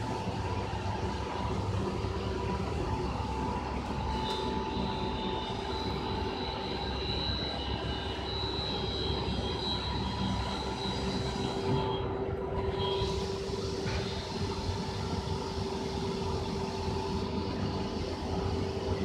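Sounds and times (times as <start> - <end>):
factory machinery drone: 0.0 - 19.0
thin high whine: 2.0 - 19.0.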